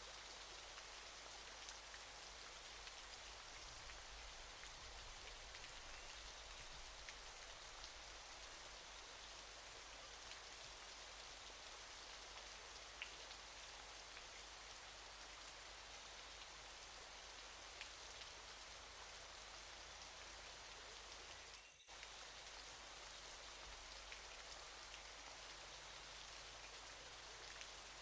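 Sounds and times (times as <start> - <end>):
waterfall hiss: 0.0 - 28.0.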